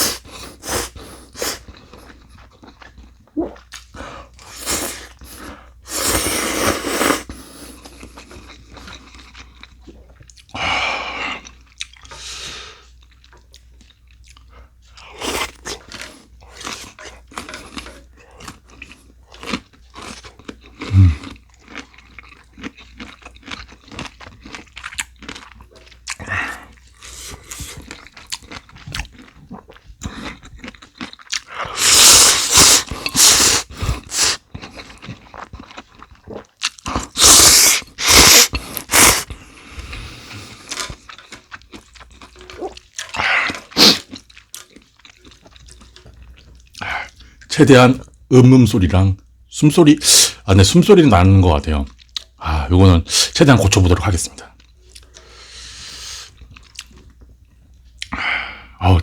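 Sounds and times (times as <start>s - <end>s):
crunching and chewing food: 0.0s - 48.3s, 50.9s - 52.6s, 53.2s - 59.0s.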